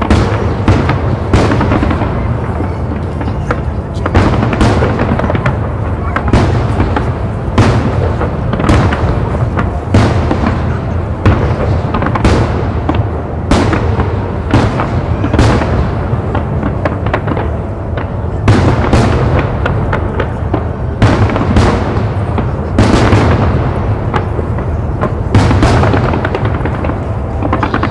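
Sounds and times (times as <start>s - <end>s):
firework crackle: 0.0s - 27.9s.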